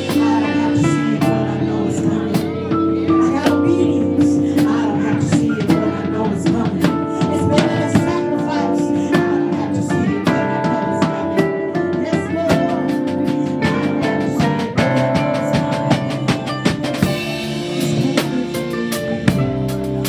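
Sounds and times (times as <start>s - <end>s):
drum beat: 0.0s - 20.0s
guitar: 0.0s - 20.0s
live gospel band: 0.0s - 20.0s.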